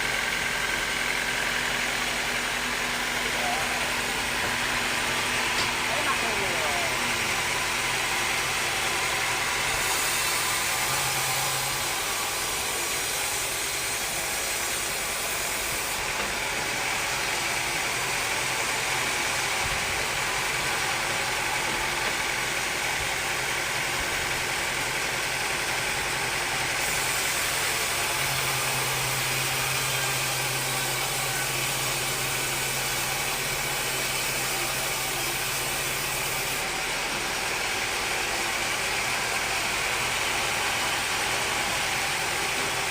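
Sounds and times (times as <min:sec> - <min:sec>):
sawmill machinery drone: 0:00.0 - 0:42.9.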